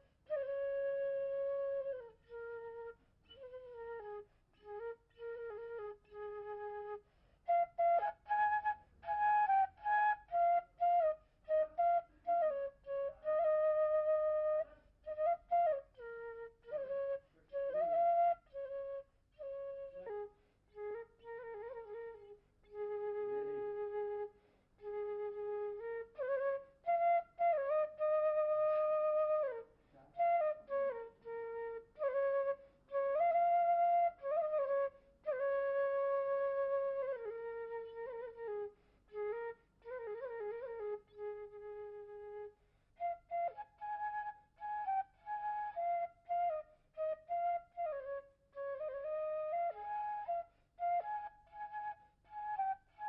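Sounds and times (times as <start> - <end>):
bamboo flute melody: 0.0 - 53.0.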